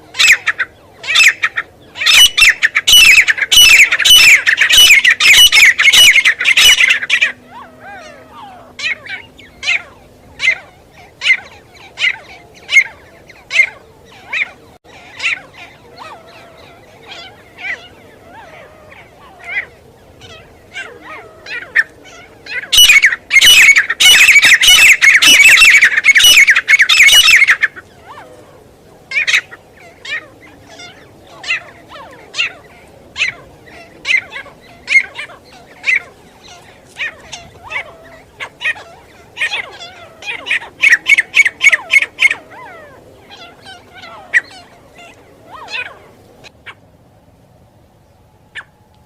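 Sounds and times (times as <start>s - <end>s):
francolin harsh calls: 0.0s - 28.4s, 29.0s - 46.8s.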